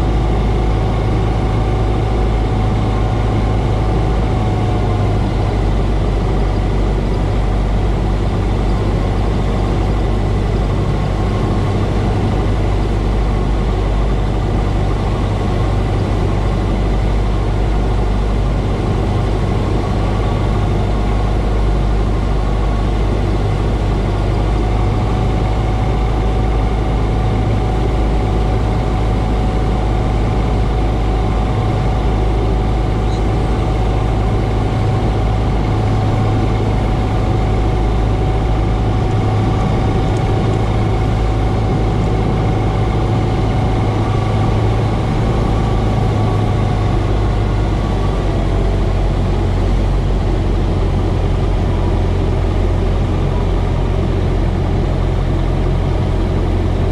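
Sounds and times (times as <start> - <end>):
small plane engine hum: 0.0 - 56.9
wind noise: 0.0 - 56.9.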